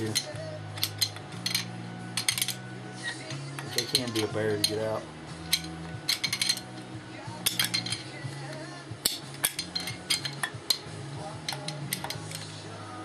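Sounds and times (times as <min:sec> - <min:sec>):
metal tools clinking: 0:00.0 - 0:08.2, 0:09.0 - 0:12.5.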